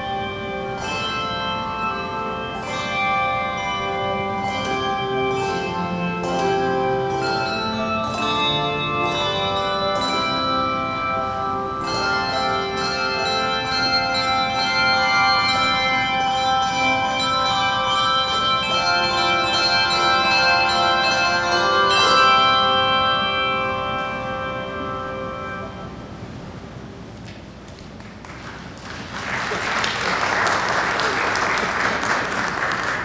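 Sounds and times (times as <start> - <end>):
handbell choir playing: 0.0 - 26.4.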